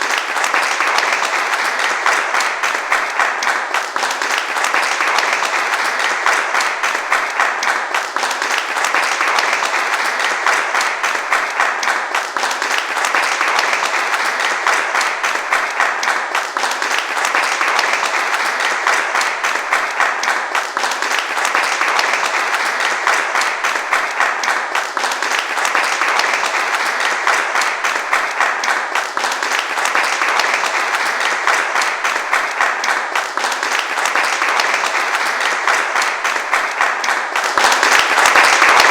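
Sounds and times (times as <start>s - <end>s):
crowd applauding: 0.0s - 38.9s.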